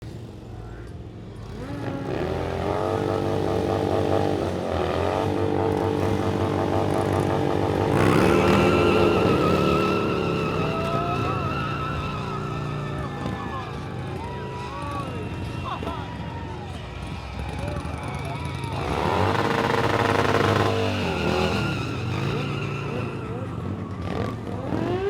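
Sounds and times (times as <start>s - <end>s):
motorcycle engine revving: 0.1s - 25.0s
tyre squealing: 1.6s - 25.0s.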